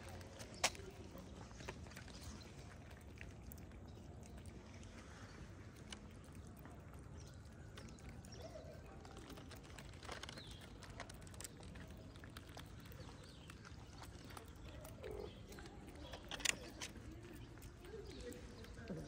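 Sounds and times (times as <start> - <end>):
cat chewing and licking food: 0.0 - 19.0.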